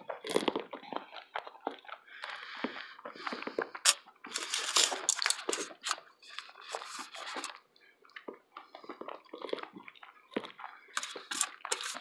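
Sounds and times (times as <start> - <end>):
close-miked chewing: 0.0 - 12.0
crackly noise: 0.0 - 12.0.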